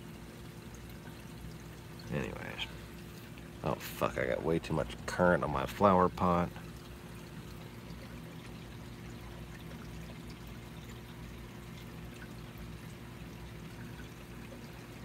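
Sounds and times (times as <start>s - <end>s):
low pump hum: 0.0s - 15.0s
water trickling and splashing: 0.0s - 15.0s.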